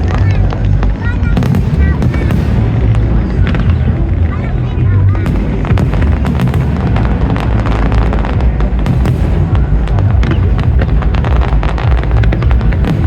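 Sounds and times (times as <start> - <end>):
deep rumble of booming shells: 0.0 - 13.0
fireworks cracks and bangs: 0.0 - 13.0.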